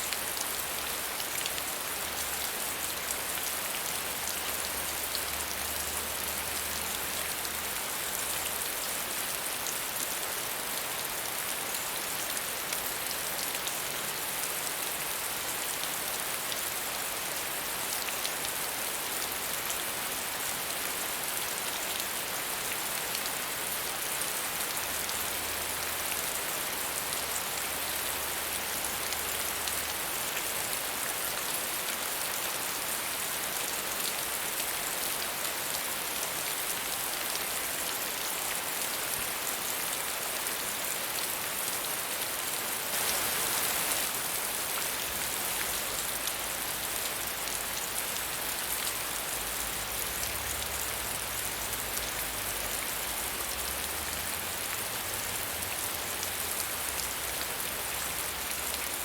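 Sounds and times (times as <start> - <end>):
rain on surfaces: 0.0 - 59.0.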